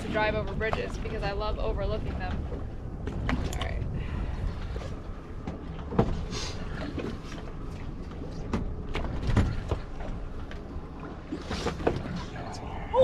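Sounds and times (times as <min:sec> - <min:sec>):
low rumble of wind and water: 0:00.0 - 0:13.0.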